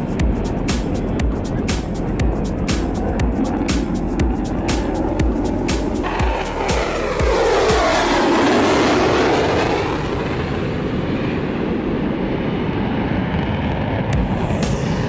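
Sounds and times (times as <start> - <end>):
jet engine roaring past: 0.0 - 15.0.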